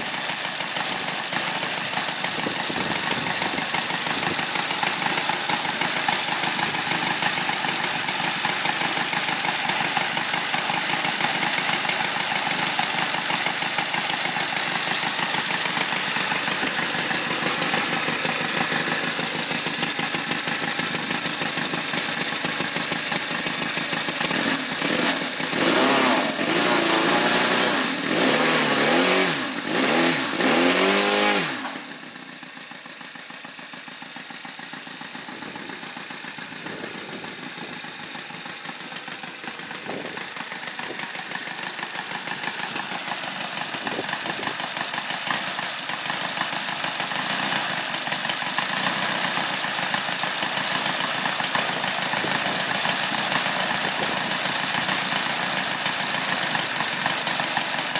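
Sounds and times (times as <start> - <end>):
model aircraft engine revving: 0.0 - 57.9.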